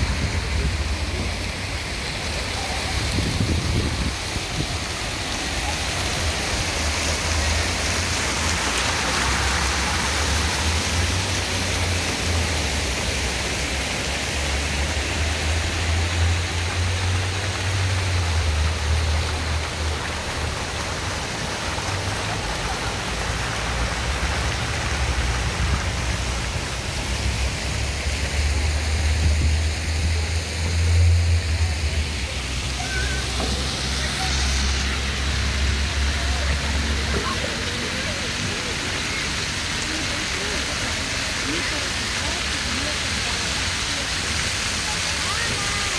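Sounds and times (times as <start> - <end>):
fountain water splashing into basin: 0.0 - 45.9.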